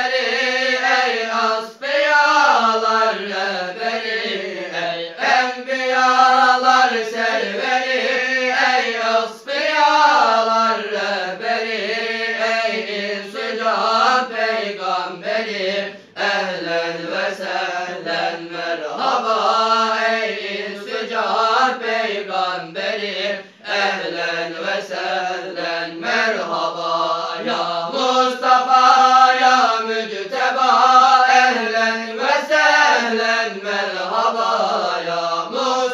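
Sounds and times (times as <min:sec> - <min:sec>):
men chanting a hymn: 0:00.0 - 0:35.9.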